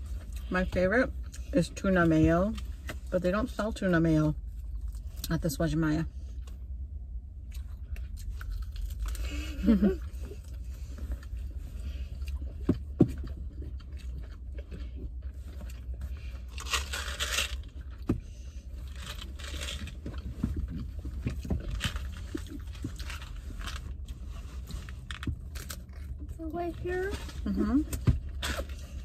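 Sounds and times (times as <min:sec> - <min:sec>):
low hum of car interior: 0:00.0 - 0:29.0
people chewing and crunching food: 0:04.4 - 0:05.4, 0:06.2 - 0:29.0.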